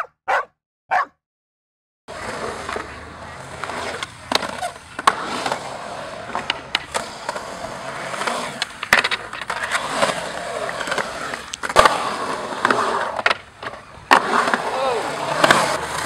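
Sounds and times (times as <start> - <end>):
skateboard clacking on concrete: 2.1 - 16.0
skateboard wheels rolling on concrete: 2.1 - 16.0.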